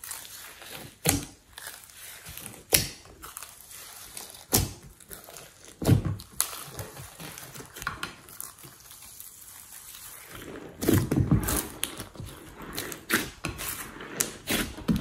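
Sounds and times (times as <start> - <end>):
slime squishing wet crackle: 0.0 - 15.0.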